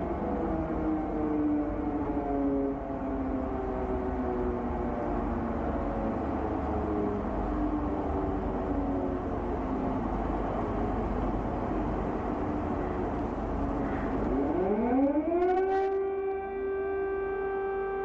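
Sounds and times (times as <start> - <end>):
air-raid siren wailing: 0.0 - 18.0.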